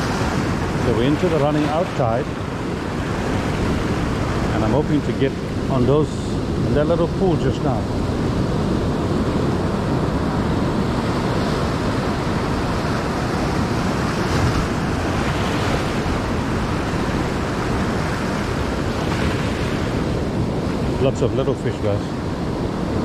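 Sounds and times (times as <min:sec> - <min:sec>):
ocean surf breaking on rocks: 0:00.0 - 0:23.0
wind rumbling on microphone: 0:00.0 - 0:23.0.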